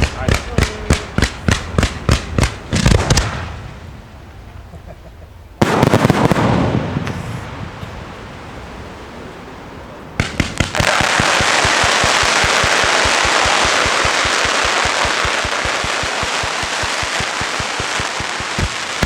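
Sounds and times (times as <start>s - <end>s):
fireworks bangs and crackling: 0.0s - 4.3s, 5.6s - 19.0s.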